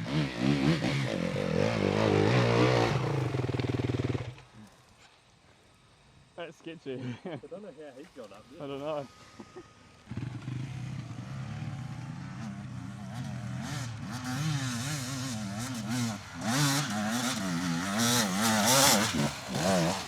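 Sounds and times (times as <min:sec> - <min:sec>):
dirt bike engine revving: 0:00.0 - 0:04.7, 0:08.1 - 0:20.0.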